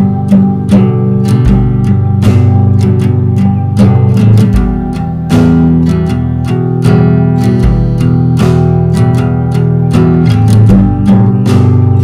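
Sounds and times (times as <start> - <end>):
plucked string melody: 0.0 - 12.0
steady music beat: 0.0 - 12.0.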